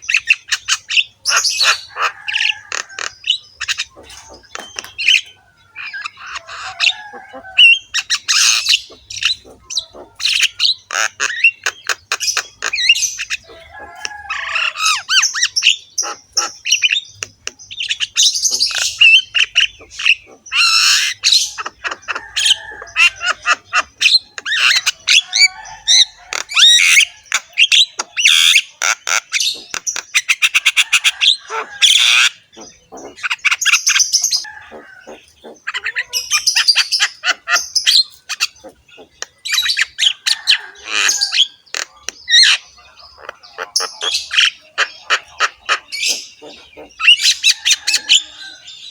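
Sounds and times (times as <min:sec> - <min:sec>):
myna bird singing: 0:00.0 - 0:48.9.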